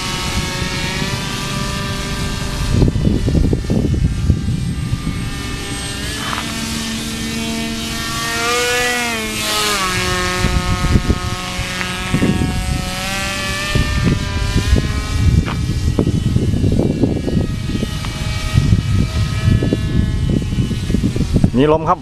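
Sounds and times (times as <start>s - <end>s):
engine and propeller droning: 0.0s - 22.0s
wind buffeting microphone: 0.0s - 22.0s.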